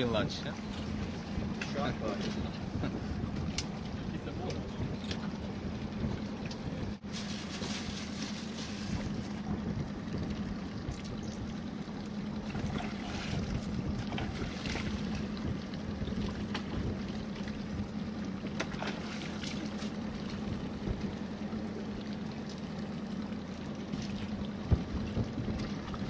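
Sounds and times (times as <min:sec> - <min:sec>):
boat motor humming: 0:00.0 - 0:26.0
water noise: 0:00.0 - 0:26.0.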